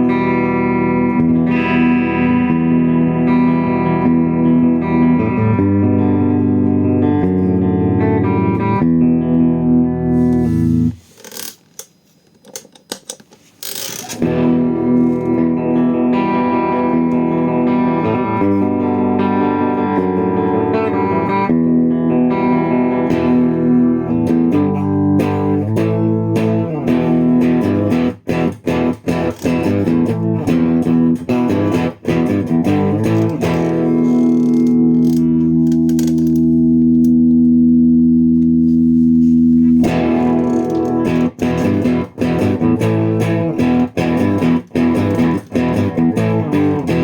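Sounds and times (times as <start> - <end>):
electric guitar chords and notes: 0.0 - 11.1, 14.1 - 47.0.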